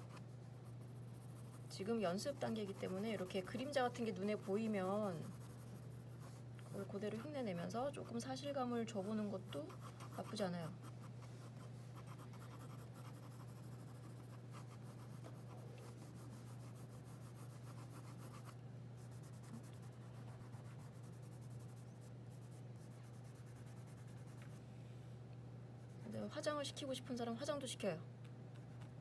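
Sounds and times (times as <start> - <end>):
pencil shading on paper: 0.0 - 8.2, 9.0 - 24.6
low steady hum: 0.0 - 29.0.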